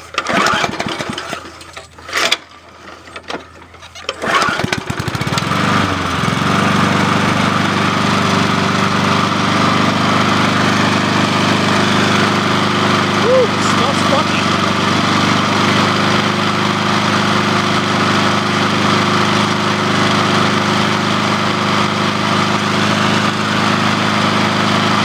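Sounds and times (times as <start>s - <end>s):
lawn mower engine starting and running: 0.0s - 25.0s.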